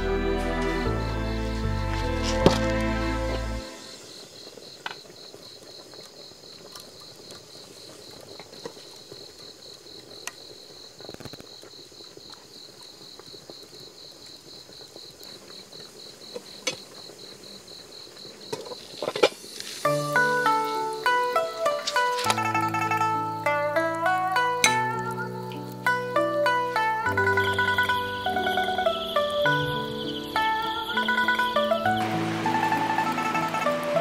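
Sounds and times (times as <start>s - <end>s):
crickets chirping: 0.0s - 34.0s
soup bubbling in a pot: 3.9s - 33.1s
burning wood popping: 4.4s - 34.0s.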